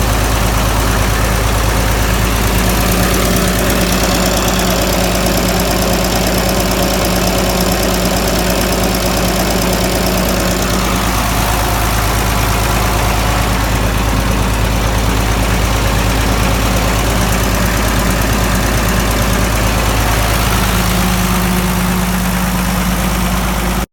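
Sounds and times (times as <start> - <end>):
tractor engine idling: 0.0 - 23.9.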